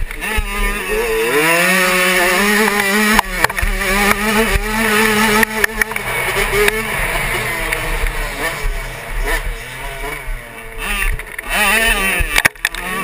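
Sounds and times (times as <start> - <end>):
motocross engine revving: 0.0 - 13.0.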